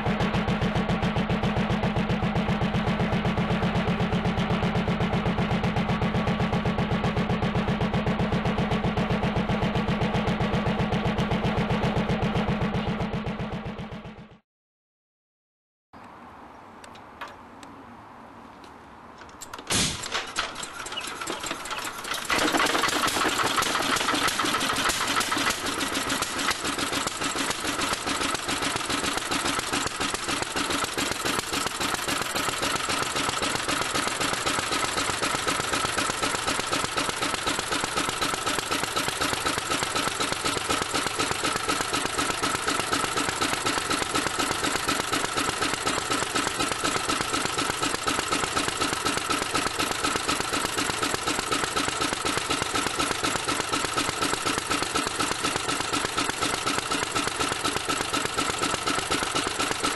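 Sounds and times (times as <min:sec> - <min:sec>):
stationary engine starting and running: 0:00.0 - 0:14.4, 0:19.5 - 0:59.9.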